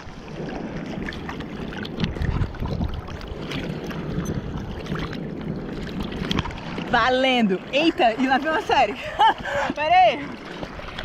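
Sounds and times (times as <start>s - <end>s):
sea water sloshing and splashing: 0.0s - 11.0s
wind buffeting microphone: 0.0s - 11.0s.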